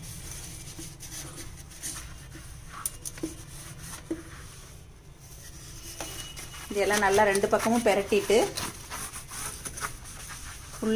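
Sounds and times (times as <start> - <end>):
sponge rubbing a shelf: 0.0 - 10.9.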